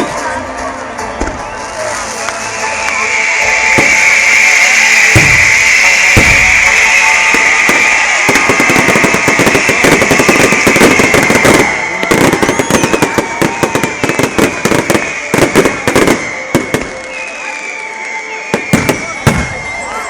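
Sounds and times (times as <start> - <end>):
fireworks crackling and popping: 1.2 - 20.0
high whistle: 1.4 - 20.0.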